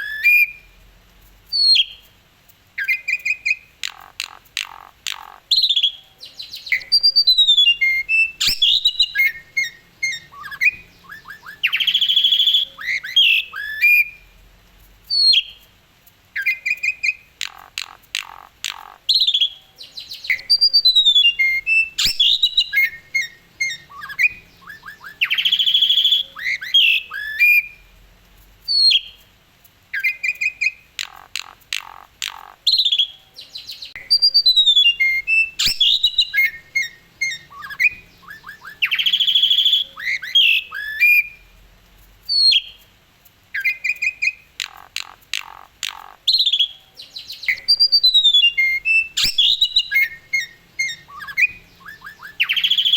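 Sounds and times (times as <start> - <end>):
starling singing: 2.8 - 14.3, 16.4 - 27.8, 29.9 - 41.5, 43.5 - 52.9.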